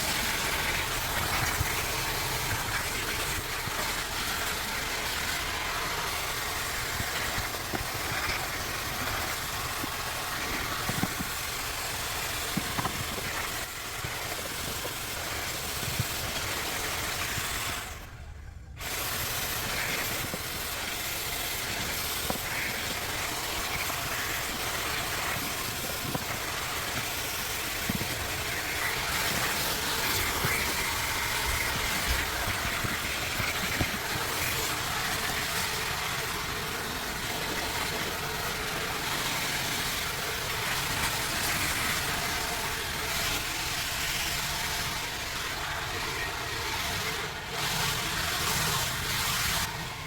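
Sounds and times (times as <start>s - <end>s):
vacuum hose sucking: 0.0s - 18.2s, 18.8s - 50.0s.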